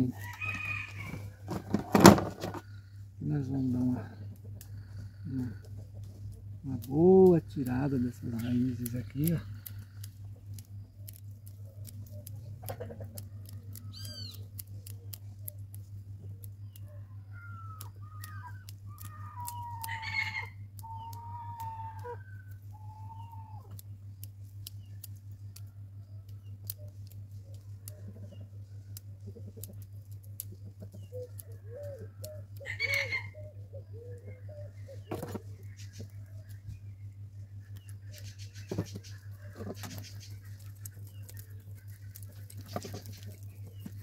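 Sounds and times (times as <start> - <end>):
birds calling: 0.0 - 44.0
steady low hum: 0.0 - 44.0.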